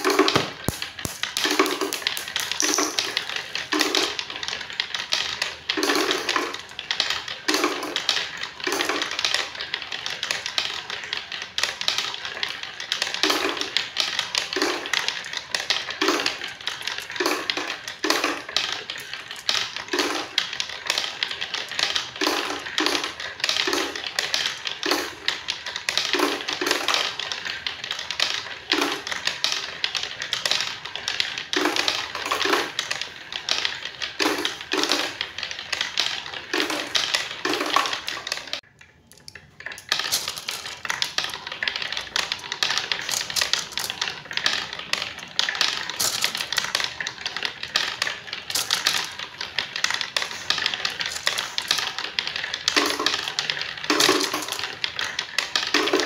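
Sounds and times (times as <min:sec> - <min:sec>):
marbles clattering down wooden run: 0:00.0 - 0:56.0.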